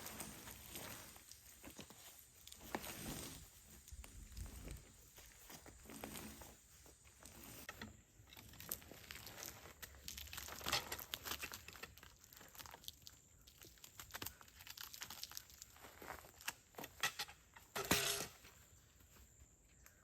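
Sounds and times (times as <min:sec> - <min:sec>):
faint crunching and crackling: 0:00.0 - 0:20.0.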